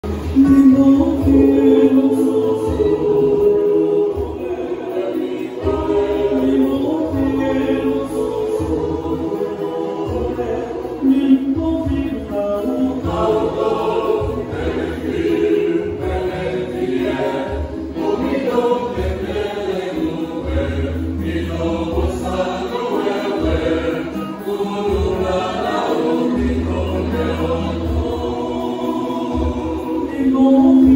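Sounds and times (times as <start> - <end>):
choir singing: 0.0 - 30.9.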